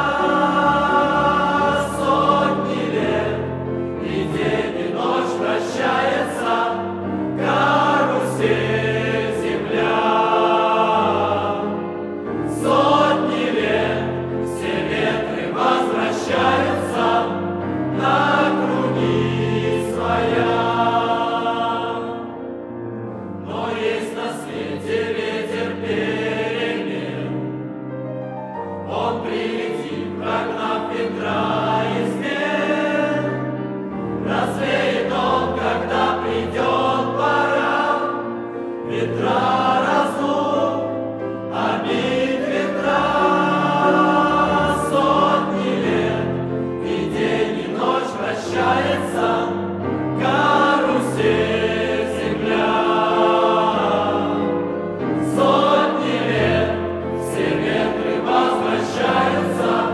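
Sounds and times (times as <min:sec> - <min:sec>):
mixed choir singing: 0:00.0 - 0:27.8, 0:28.7 - 0:59.9.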